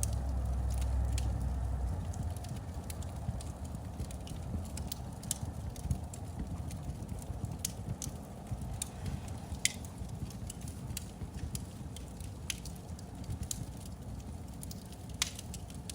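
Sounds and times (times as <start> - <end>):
fire crackling and popping: 0.0 - 15.9
low rumble of flame: 0.0 - 15.9.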